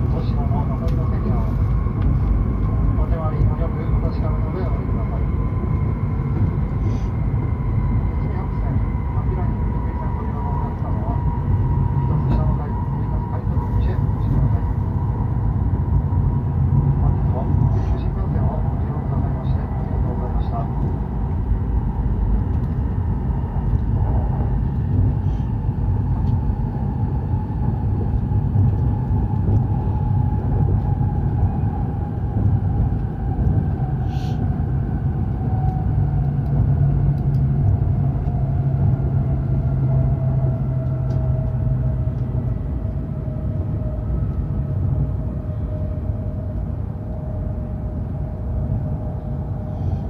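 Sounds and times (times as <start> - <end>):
train rumbling: 0.0 - 50.0.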